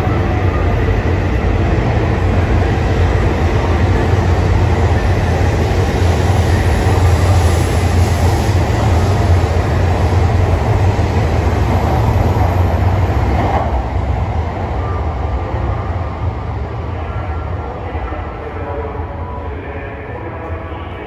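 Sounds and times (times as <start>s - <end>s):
train passing with low rumble: 0.0s - 21.0s.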